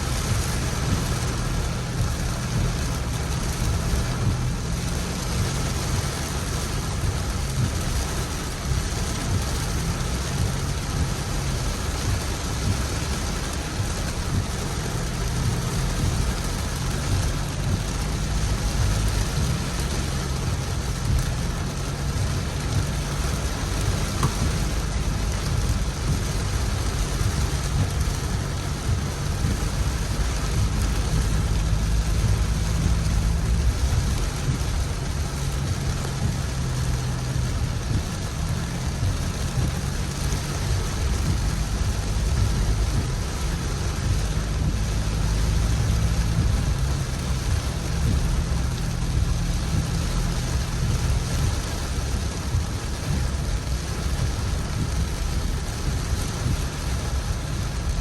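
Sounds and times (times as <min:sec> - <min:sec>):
deep low rumble: 0:00.0 - 0:58.0
steady rain hiss: 0:00.0 - 0:58.0.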